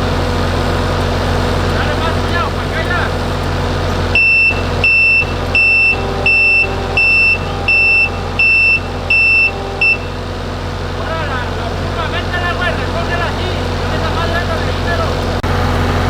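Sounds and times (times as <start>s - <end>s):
engine running: 0.0s - 16.0s
reversing alarm beeping: 2.1s - 15.3s.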